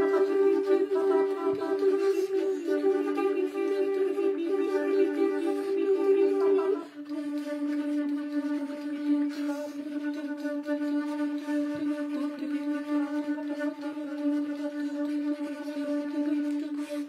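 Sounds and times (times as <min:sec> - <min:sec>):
flutes sustaining long note: 0:00.0 - 0:17.0.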